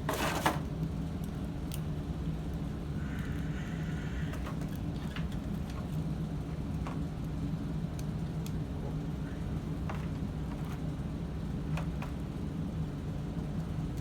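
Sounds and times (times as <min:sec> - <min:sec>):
steady low hum: 0:00.9 - 0:14.0.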